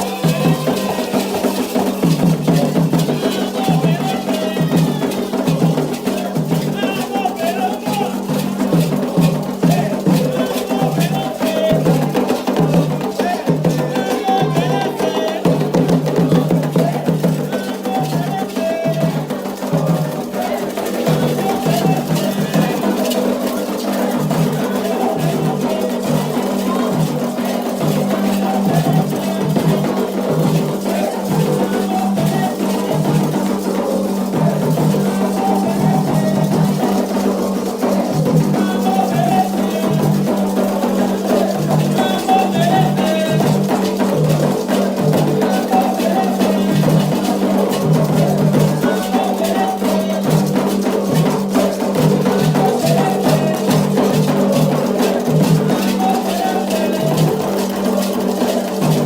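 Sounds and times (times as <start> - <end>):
group singing: 0.0 - 59.0
hand drums: 0.0 - 59.0.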